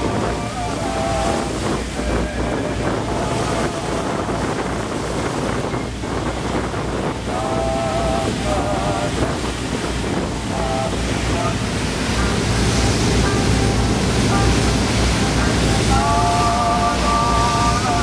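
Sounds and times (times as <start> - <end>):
white water rushing: 0.0 - 18.0
wind buffeting microphone: 0.0 - 18.0.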